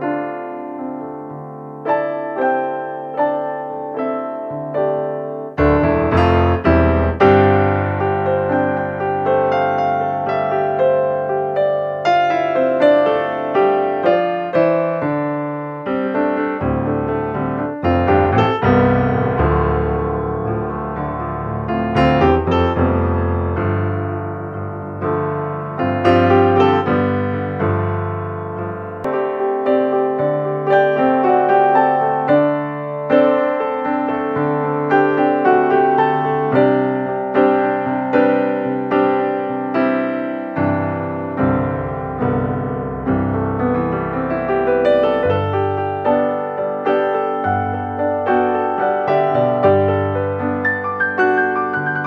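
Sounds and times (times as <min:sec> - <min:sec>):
piano music: 0:00.0 - 0:52.0.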